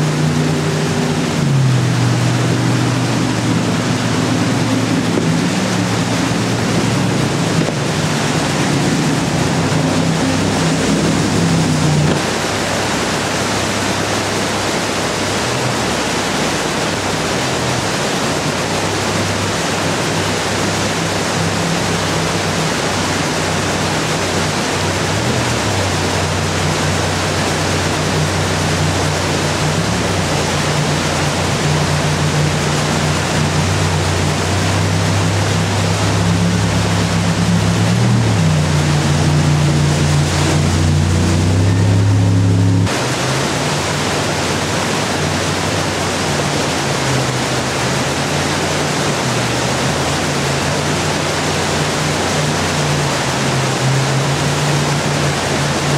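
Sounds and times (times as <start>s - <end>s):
boat engine drone: 0.0s - 55.9s
whitewater rapids rushing: 0.0s - 55.9s.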